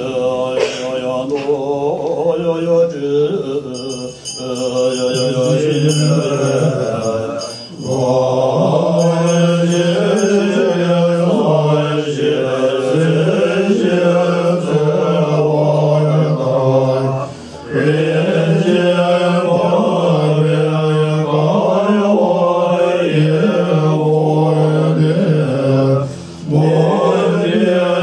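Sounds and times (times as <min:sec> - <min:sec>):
monks chanting in unison: 0:00.0 - 0:28.0.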